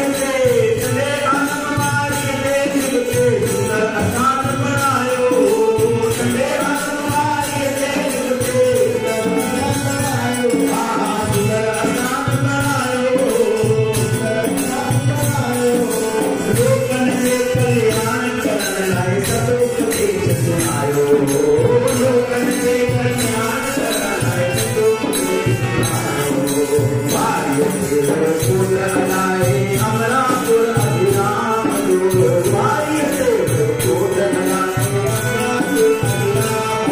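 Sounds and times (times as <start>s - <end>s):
harmonium melody: 0.0s - 36.9s
percussion beat: 0.0s - 36.9s.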